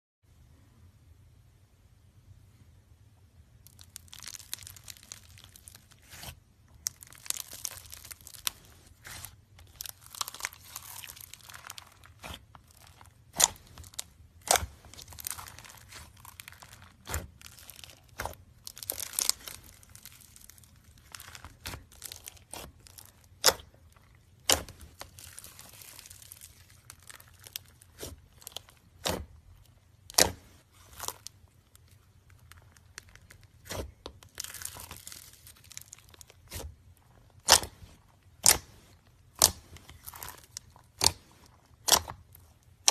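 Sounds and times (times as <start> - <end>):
slime popping: 3.6 - 42.9
slime squishing: 3.6 - 42.9.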